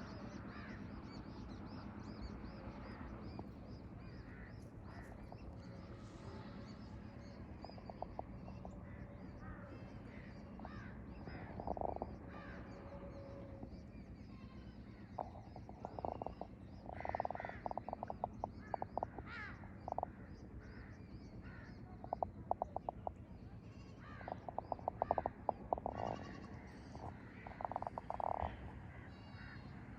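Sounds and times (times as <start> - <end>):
harsh animal calls: 4.1 - 23.2, 23.8 - 29.9.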